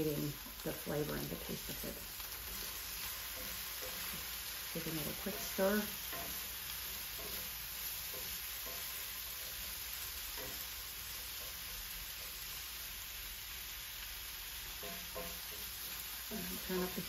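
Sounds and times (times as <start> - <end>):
vegetables sizzling in oil: 0.0 - 17.0
wooden spatula scraping skillet: 0.2 - 12.7, 14.6 - 17.0.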